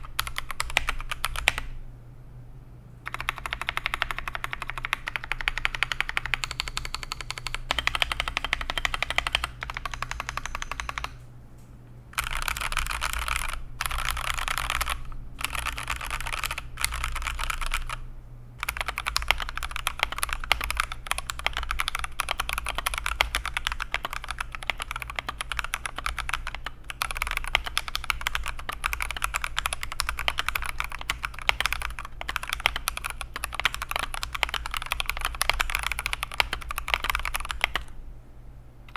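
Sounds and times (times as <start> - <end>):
fast mechanical keyboard typing: 0.0 - 1.7, 3.1 - 11.2, 12.2 - 18.0, 18.6 - 37.9
low steady hum: 0.0 - 38.9.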